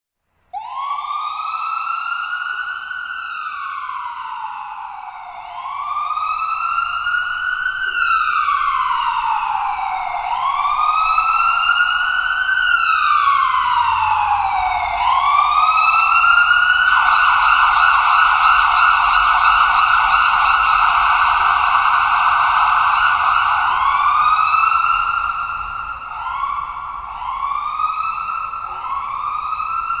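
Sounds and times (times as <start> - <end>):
ambulance siren: 0.5 - 30.0.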